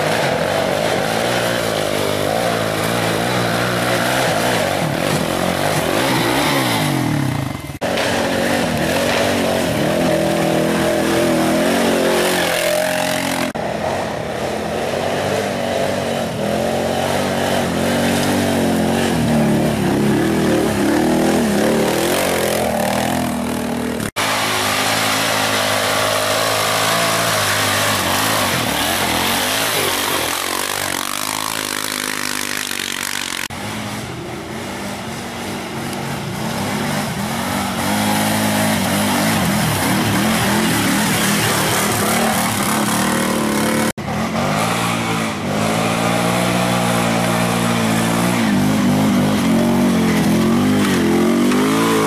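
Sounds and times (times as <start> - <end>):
quad engines revving: 0.0 - 52.0.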